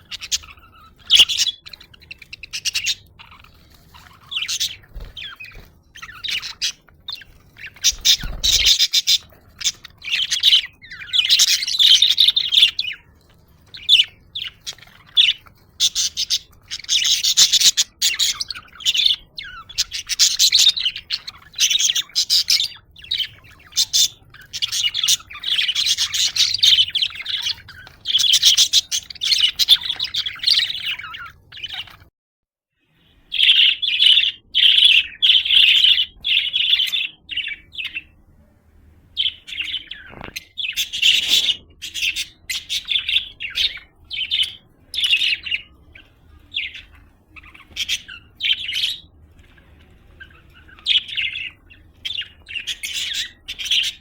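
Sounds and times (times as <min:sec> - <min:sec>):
budgerigars chirping and warbling: 0:00.0 - 0:32.1, 0:32.9 - 0:38.4, 0:39.1 - 0:54.0.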